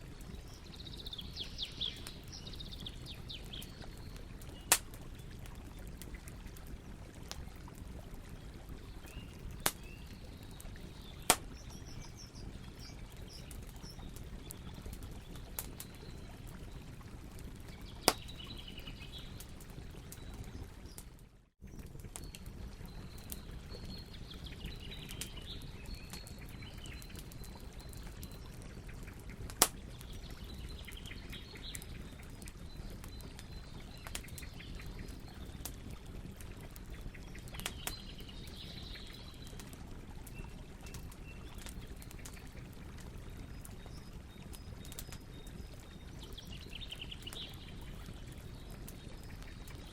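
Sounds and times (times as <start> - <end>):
campfire burning and crackling: 0.0 - 49.9
birds chirping faintly: 0.1 - 49.9.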